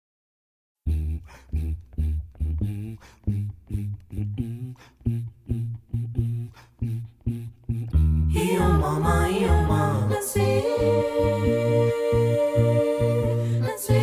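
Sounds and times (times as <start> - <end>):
bass notes: 0.9 - 14.0.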